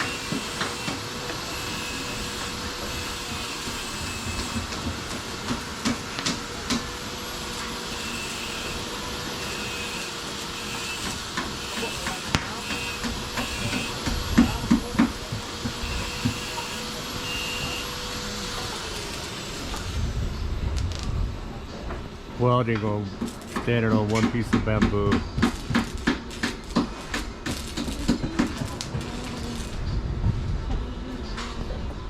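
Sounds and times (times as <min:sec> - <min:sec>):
arc welding crackling hiss: 0:00.0 - 0:30.0.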